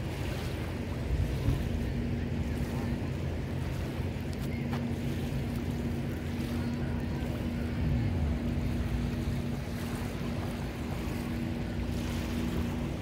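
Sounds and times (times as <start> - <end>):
constant rushing noise: 0.0 - 13.0
engine hum: 0.0 - 13.0.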